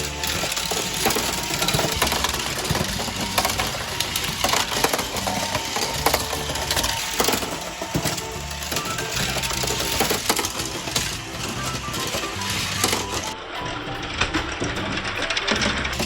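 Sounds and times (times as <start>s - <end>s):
plastic clicks and rattles: 0.0s - 13.4s
small motor hum: 0.0s - 13.4s.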